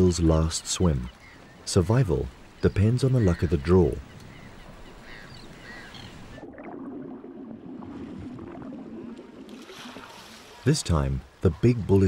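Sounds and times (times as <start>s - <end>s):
water sloshing and rushing: 0.0s - 12.0s.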